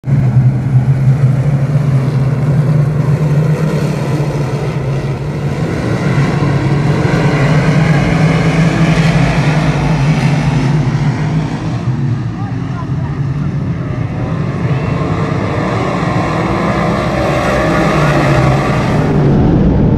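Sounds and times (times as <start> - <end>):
race car engines droning: 0.0 - 19.9.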